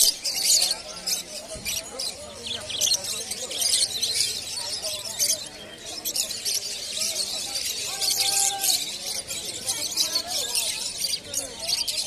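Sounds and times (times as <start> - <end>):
lovebirds chattering and screeching: 0.0 - 12.0
people's voices: 0.0 - 12.0.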